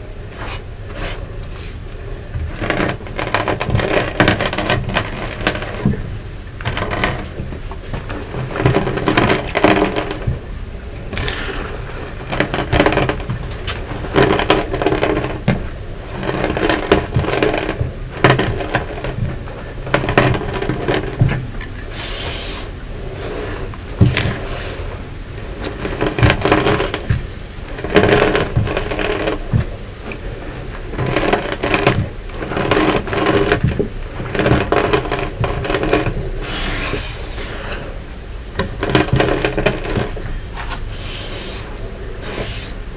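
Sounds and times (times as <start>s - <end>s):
rolling pin crunching lumps: 1.9s - 40.5s.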